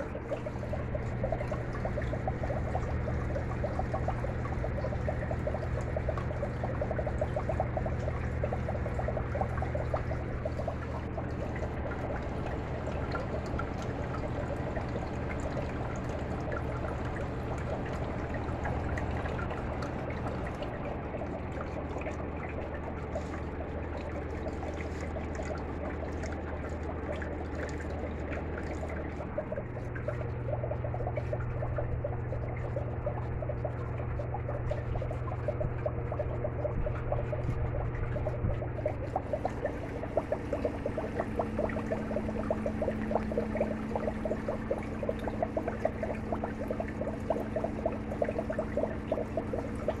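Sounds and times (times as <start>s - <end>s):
aquarium pump humming: 0.0s - 50.0s
water trickling and bubbling: 0.0s - 50.0s.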